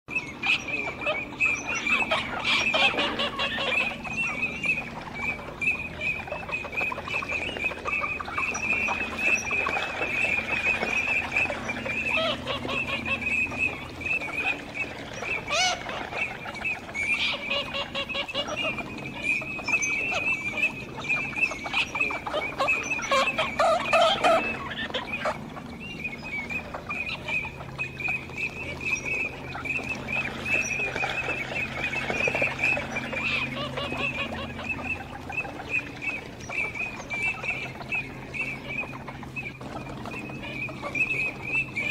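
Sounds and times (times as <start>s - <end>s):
ducks chattering: 0.1s - 41.9s.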